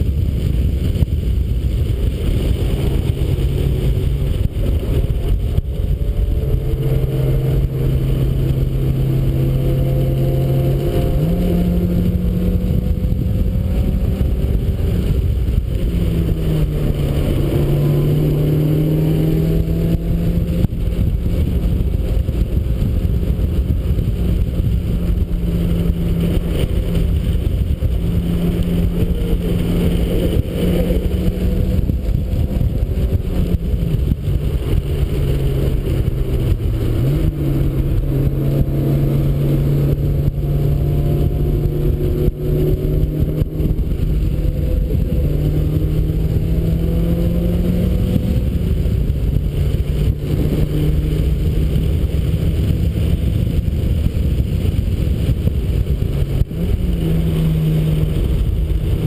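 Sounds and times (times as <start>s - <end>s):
car engine accelerating and shifting: 0.0s - 59.0s
road and wind noise: 0.0s - 59.0s.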